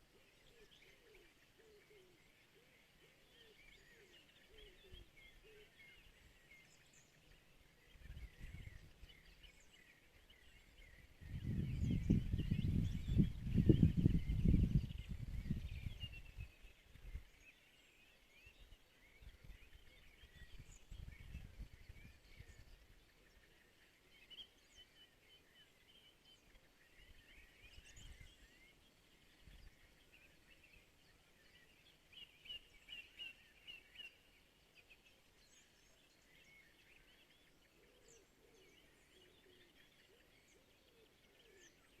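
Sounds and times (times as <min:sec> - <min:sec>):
distant birds chirping: 0:00.0 - 0:42.0.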